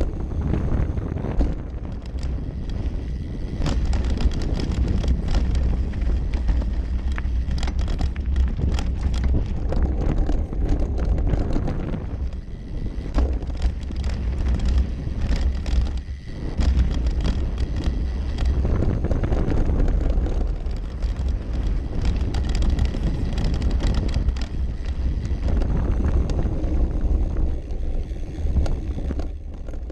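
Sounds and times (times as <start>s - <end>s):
bike chain and frame rattling: 0.0s - 29.9s
bike tyres rolling on dirt: 0.0s - 29.9s
wind rumble on microphone: 0.0s - 29.9s.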